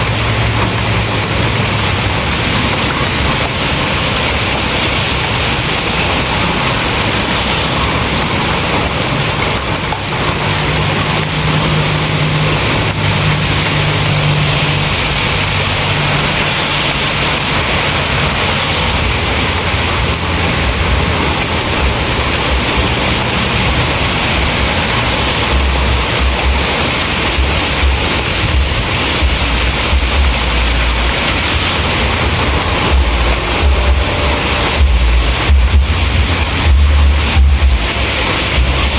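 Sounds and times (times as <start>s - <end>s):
heavy rain: 0.0s - 38.9s
low rumble: 0.0s - 38.9s.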